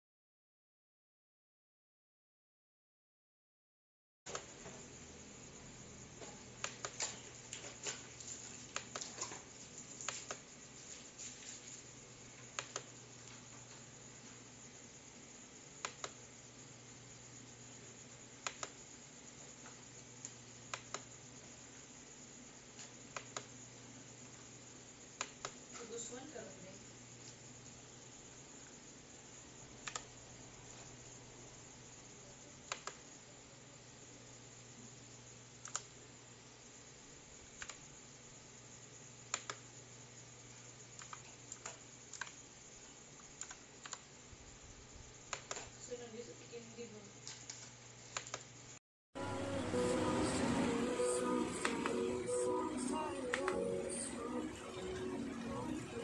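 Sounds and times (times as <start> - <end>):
faint steady hiss: 4.3 - 56.0.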